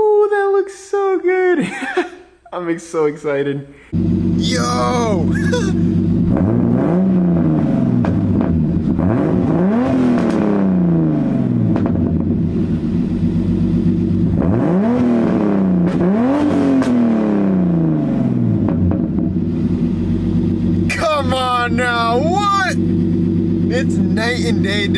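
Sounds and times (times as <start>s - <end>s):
car engine idling and revving: 3.9s - 24.9s.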